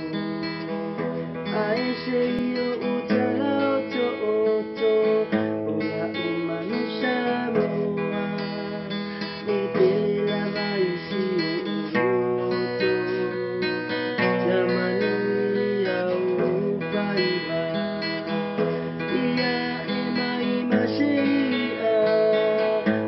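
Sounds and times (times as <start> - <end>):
man singing: 0.0 - 23.0
strummed acoustic guitar: 0.0 - 23.0.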